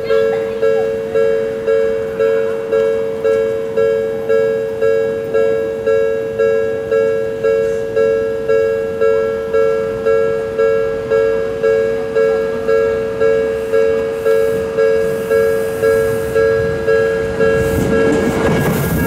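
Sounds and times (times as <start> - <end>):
level crossing electronic bell: 0.0 - 18.2.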